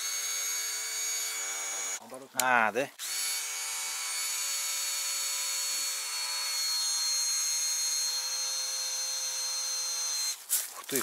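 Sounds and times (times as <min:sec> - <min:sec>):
electric drill whining: 0:00.0 - 0:02.0, 0:03.0 - 0:10.4.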